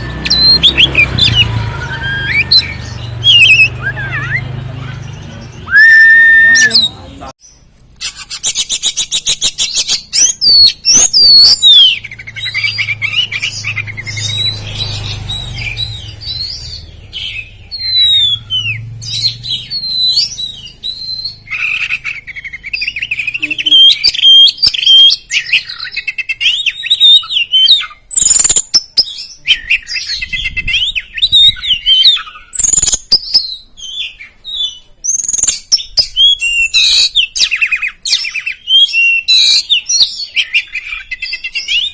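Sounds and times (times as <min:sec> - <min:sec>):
bird singing whistled phrases: 0:00.0 - 0:41.9.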